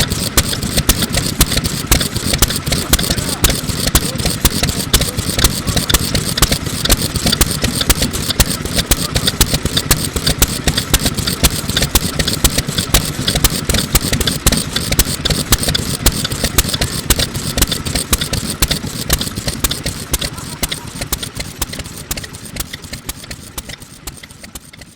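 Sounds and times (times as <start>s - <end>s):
exhaust popping: 0.0s - 24.9s
stationary oil engine running: 0.0s - 24.9s.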